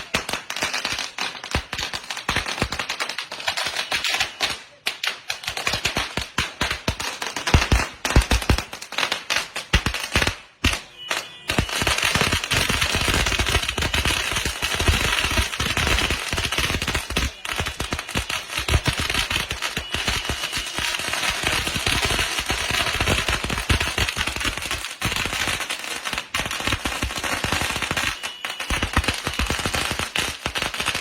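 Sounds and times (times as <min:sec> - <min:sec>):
firecrackers banging: 0:00.0 - 0:31.0.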